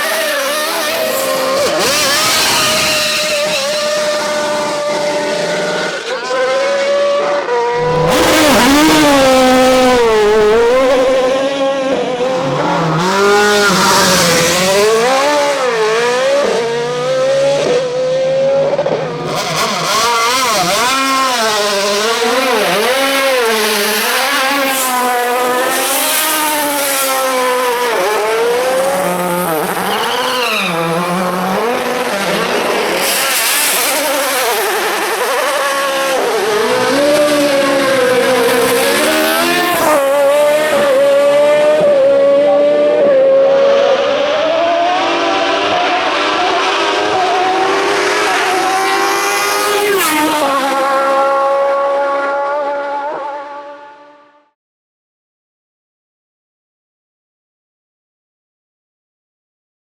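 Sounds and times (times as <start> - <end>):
race car engines revving: 0.0 - 54.2.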